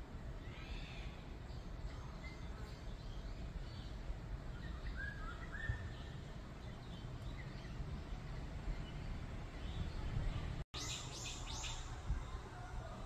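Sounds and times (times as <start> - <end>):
steady low rumble: 0.0 - 13.0
forest birds chirping and whistling: 0.3 - 12.0.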